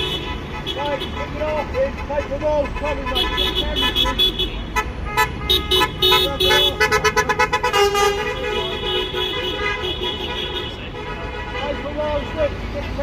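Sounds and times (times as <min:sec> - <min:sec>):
car horns honking: 0:00.0 - 0:13.0
voices: 0:00.0 - 0:13.0.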